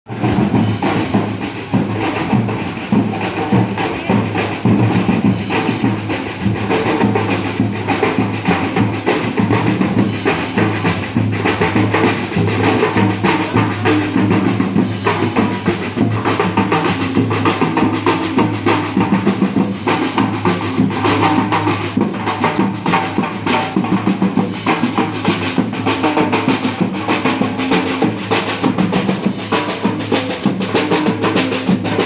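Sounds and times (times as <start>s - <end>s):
bass drum and snare beating: 0.1s - 32.0s
marching band music: 0.1s - 32.0s.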